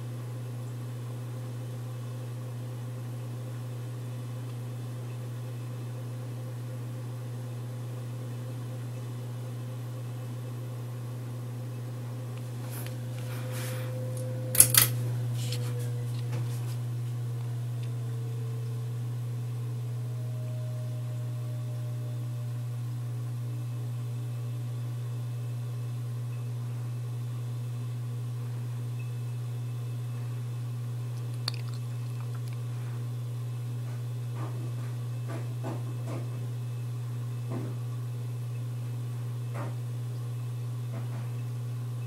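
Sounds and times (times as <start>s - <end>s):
ceiling fan motor humming: 0.0s - 42.0s
fan motor whine: 0.0s - 42.0s.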